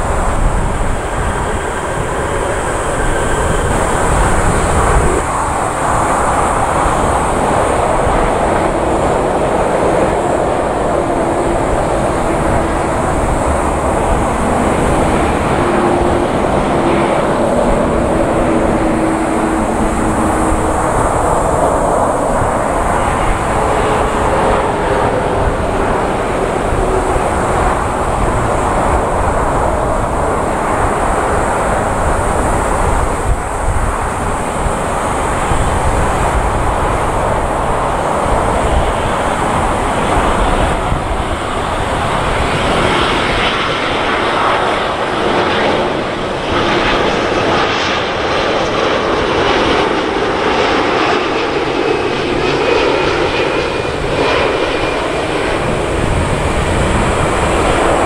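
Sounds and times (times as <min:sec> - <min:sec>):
jet airliner rumble: 0:00.0 - 0:58.0.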